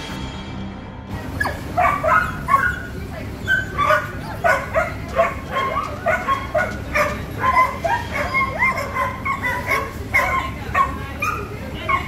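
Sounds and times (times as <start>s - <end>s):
dogs barking and yipping: 1.3s - 12.0s.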